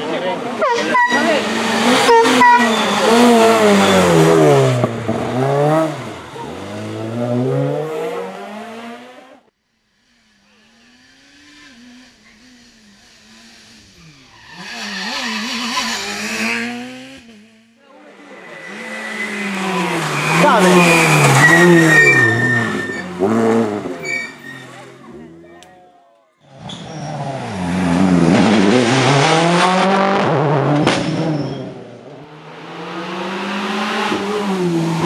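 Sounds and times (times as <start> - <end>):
rally car engine revving: 0.0 - 25.6, 26.5 - 35.0
rally car passing: 0.0 - 25.6, 26.8 - 35.0.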